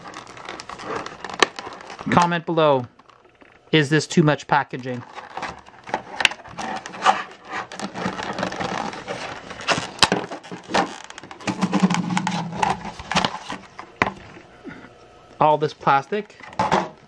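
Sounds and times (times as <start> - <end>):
stiff plastic crackling and scraping: 0.0 - 14.5, 15.8 - 17.0.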